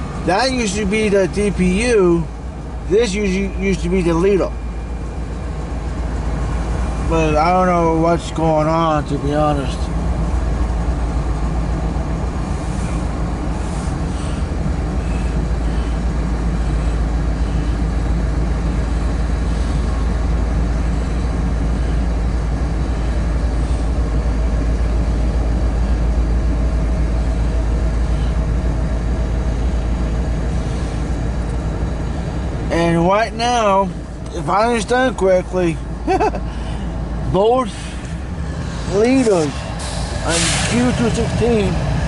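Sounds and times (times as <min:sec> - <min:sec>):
freight train rumbling: 0:00.0 - 0:42.0.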